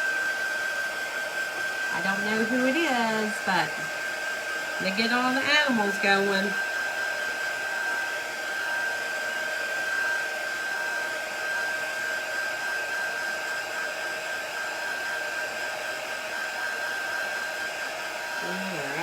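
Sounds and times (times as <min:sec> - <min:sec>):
blow dryer whining: 0:00.0 - 0:19.0.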